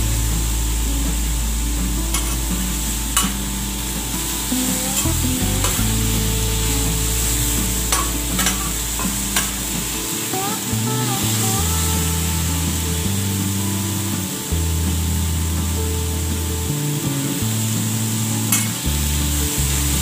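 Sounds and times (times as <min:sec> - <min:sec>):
chicken sizzling on griddle: 0:02.1 - 0:20.0.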